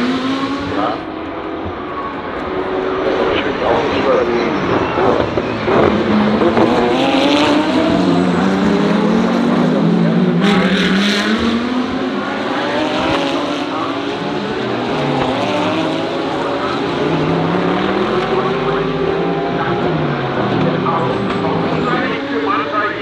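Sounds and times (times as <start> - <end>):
race car engines: 0.0 - 23.0.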